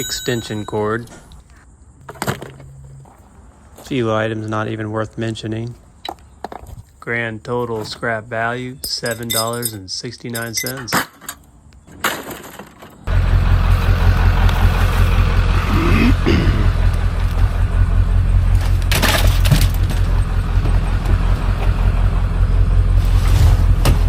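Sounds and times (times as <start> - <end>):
vehicle engine and road rumble: 1.0 - 24.0.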